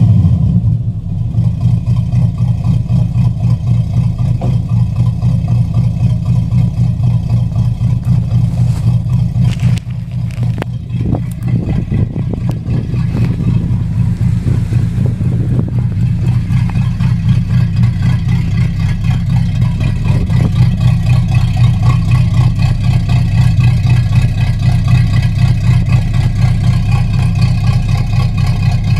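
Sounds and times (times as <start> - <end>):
car engine deep exhaust note: 0.0 - 28.9.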